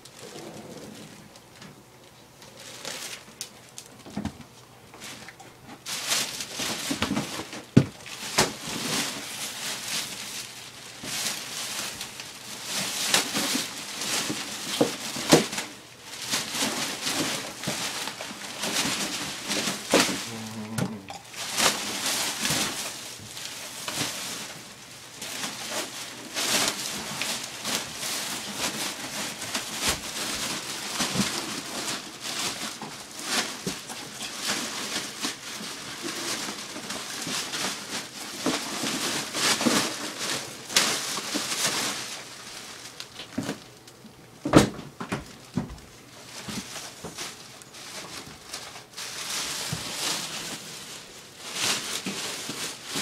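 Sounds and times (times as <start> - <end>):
linoleum scraping and rustling: 0.0 - 1.8, 2.4 - 43.8, 44.4 - 53.0.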